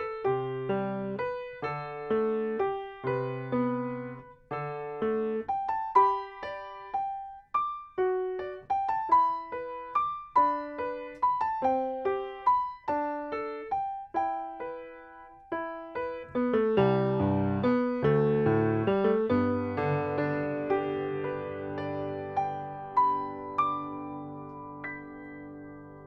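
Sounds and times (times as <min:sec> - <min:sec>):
solo grand piano: 0:00.0 - 0:26.0.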